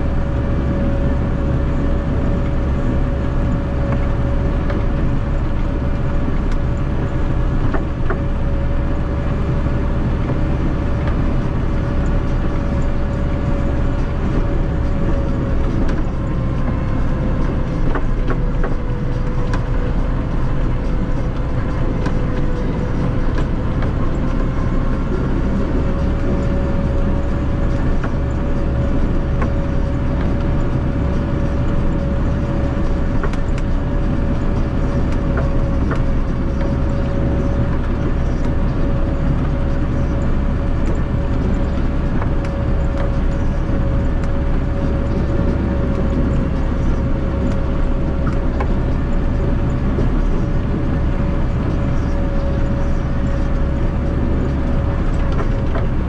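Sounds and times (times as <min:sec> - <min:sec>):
high engine whine: 0:00.0 - 0:56.0
tractor diesel engine running: 0:00.0 - 0:56.0.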